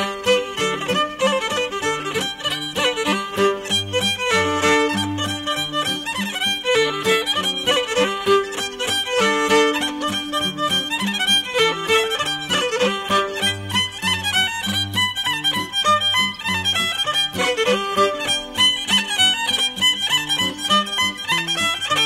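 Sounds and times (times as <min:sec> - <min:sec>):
traditional instrumental folk music: 0:00.0 - 0:22.0.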